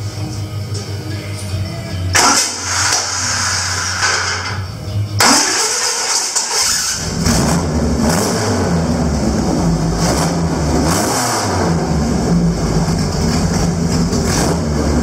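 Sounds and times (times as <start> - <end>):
race car engine revving: 2.1 - 15.0.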